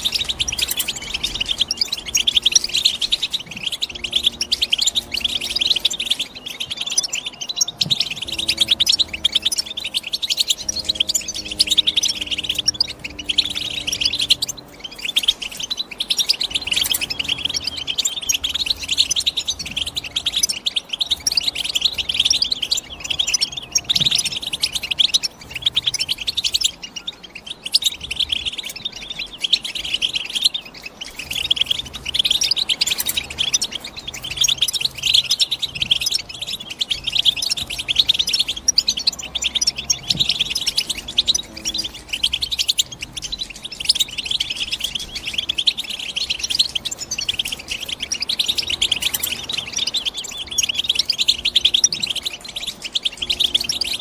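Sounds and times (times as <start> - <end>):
goldfinch twittering song: 0.0 - 54.0.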